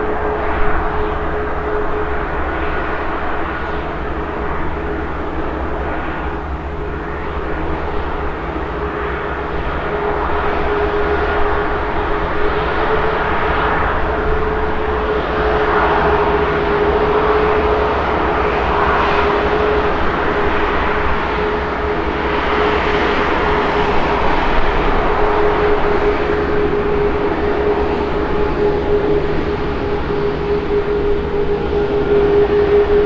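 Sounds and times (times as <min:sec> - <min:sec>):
jet engines rushing: 0:00.0 - 0:33.0
steady droning tone: 0:00.0 - 0:33.0.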